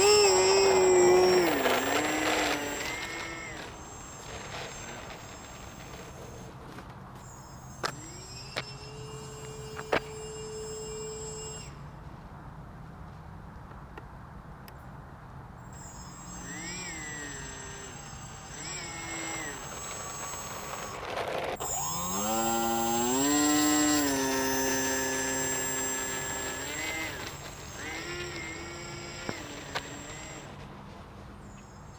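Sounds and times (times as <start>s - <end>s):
electric motor whining: 0.0s - 11.9s, 15.6s - 31.9s.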